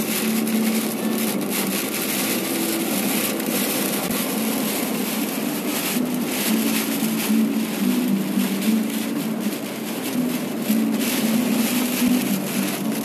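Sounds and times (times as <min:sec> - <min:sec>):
tyre and wind noise inside car: 0:00.0 - 0:13.0.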